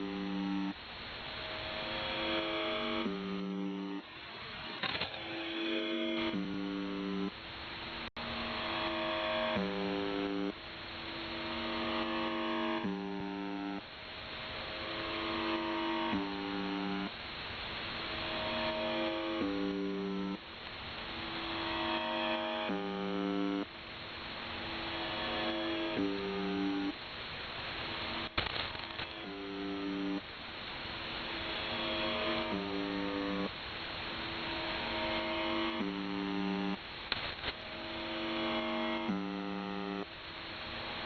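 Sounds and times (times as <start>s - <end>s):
harsh buzzing radio tone: 0.0s - 0.8s, 1.6s - 7.4s, 8.2s - 14.0s, 14.6s - 17.2s, 18.0s - 20.5s, 21.1s - 23.7s, 24.5s - 27.0s, 27.8s - 30.3s, 31.2s - 41.0s
radio static hiss: 0.0s - 41.0s.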